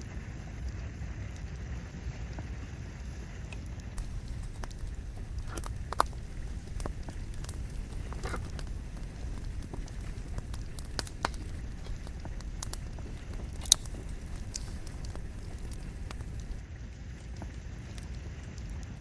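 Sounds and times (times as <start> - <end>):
wood fire burning: 3.1 - 19.0
logs crackling and popping: 3.5 - 19.0.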